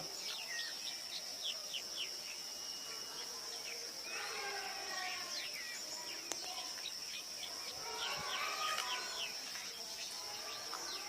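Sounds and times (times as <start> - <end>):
bird chirps: 0.0 - 11.0
high insect drone: 0.0 - 11.0.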